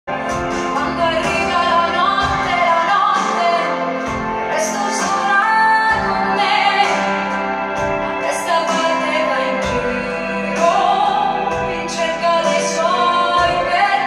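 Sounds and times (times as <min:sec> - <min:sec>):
woman singing pop ballad: 0:00.1 - 0:14.0.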